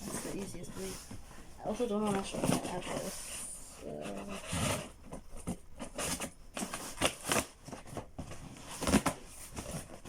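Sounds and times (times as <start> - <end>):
cardboard packaging rustling: 0.0 - 10.0.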